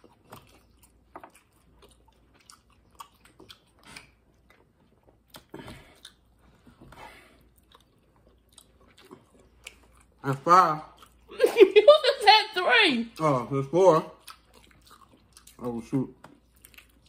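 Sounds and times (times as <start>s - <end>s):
chewing and eating: 0.0s - 11.4s, 13.1s - 17.0s.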